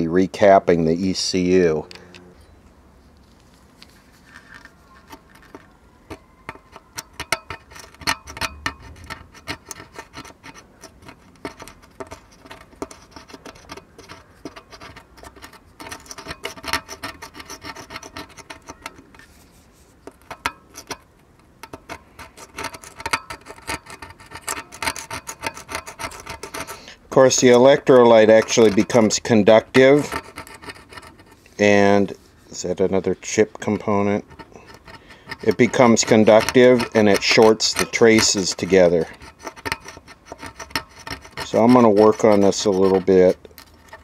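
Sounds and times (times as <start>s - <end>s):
metal pick scraping circuit board: 4.4s - 44.0s.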